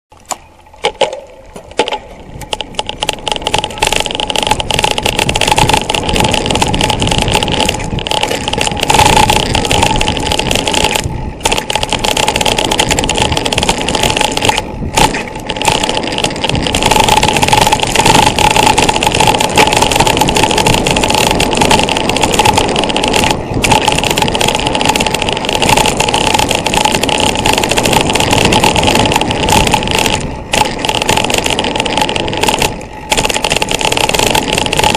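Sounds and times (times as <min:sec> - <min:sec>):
bike tyres rumbling on dirt: 0:00.2 - 0:34.9
wind buffeting microphone: 0:01.5 - 0:34.9.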